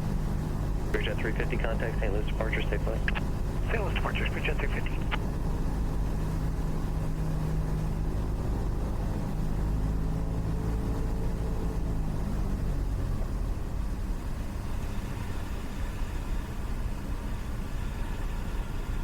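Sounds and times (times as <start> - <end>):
airplane engine droning in cockpit: 0.0 - 19.0.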